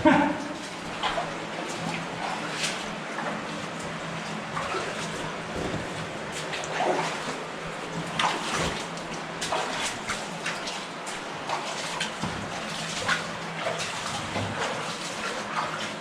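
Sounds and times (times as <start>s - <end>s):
flowing stream water: 0.0s - 16.0s.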